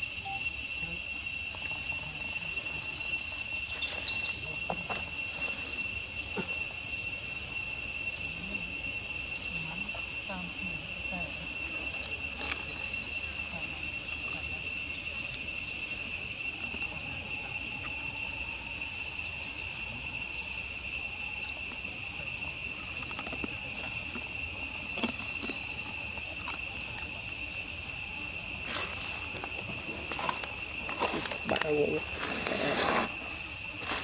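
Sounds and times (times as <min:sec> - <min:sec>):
insects buzzing: 0:00.0 - 0:34.0.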